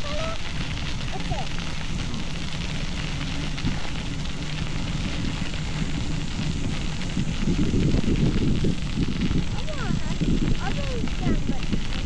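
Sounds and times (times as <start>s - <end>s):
bicycle tyres on gravel: 0.0s - 12.0s
wind rumbling on microphone: 0.0s - 12.0s.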